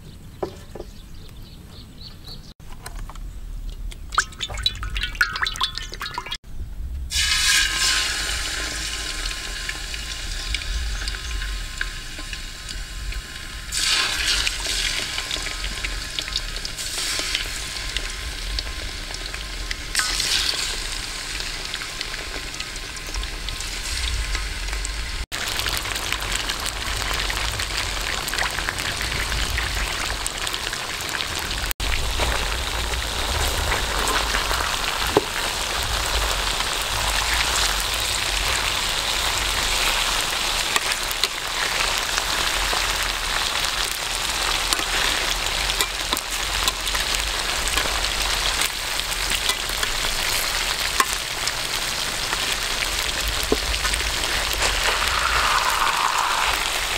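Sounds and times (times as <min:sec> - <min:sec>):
deep-frying sizzle and crackle: 0:04.0 - 0:56.9.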